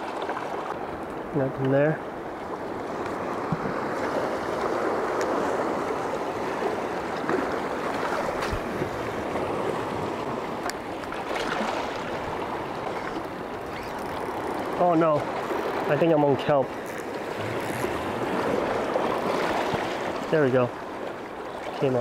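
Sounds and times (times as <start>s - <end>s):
sea water rushing over rocks: 0.0s - 22.0s.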